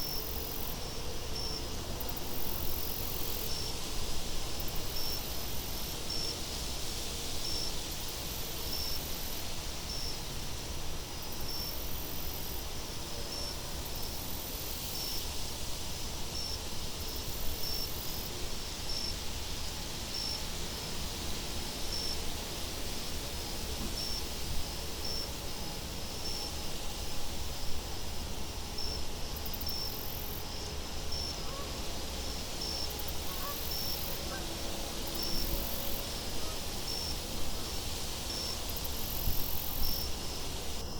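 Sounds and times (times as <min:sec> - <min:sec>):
faint high insect hiss: 0:00.0 - 0:40.9.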